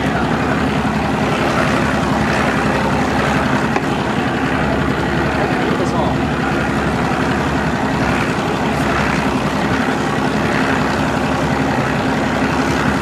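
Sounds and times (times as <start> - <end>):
boat motor droning: 0.0 - 13.0
water noise: 0.0 - 13.0.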